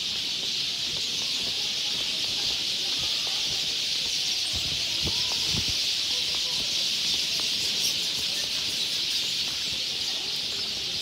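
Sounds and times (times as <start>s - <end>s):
soft footsteps on paving: 0.0s - 11.0s.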